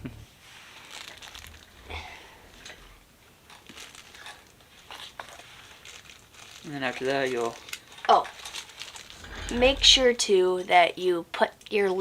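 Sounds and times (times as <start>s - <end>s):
rustling and crinkling: 0.3s - 10.4s.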